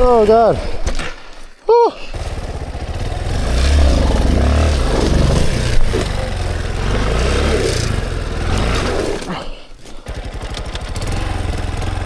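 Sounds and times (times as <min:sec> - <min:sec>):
dirt bike engine revving: 0:02.1 - 0:12.0.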